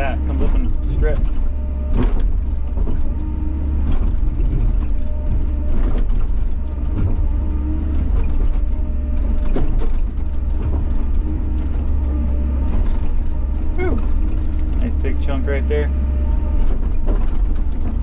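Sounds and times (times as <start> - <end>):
excavator engine under load: 0.0 - 18.0
hydraulic whine: 0.0 - 18.0.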